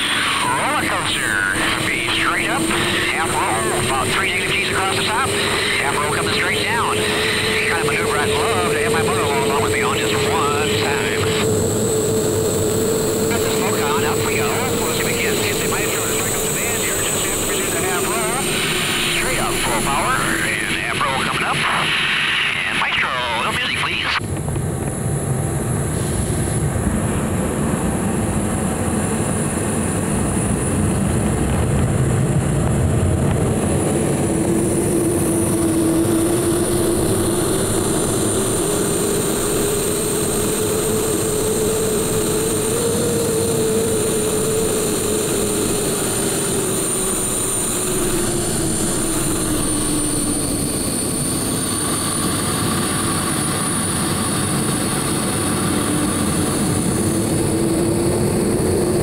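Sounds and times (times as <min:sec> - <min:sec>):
low hum: 0:00.0 - 0:22.5, 0:24.2 - 0:59.0
jet engine turbine whine: 0:00.0 - 0:59.0.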